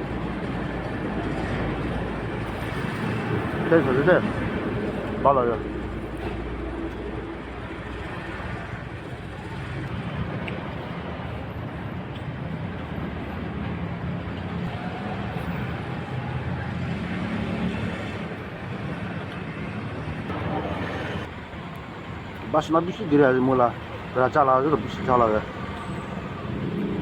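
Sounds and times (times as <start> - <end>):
highway traffic passing: 0.0 - 27.0.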